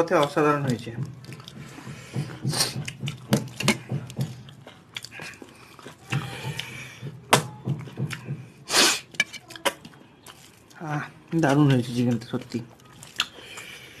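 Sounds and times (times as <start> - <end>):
wet chewing and lip smacking: 0.1 - 8.4, 9.4 - 14.0.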